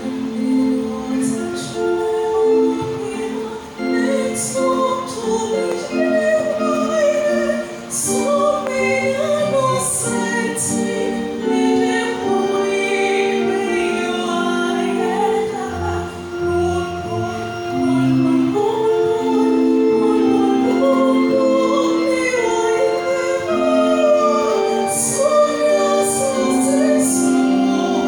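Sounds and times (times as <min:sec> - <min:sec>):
choir singing in harmony: 0:00.0 - 0:28.0.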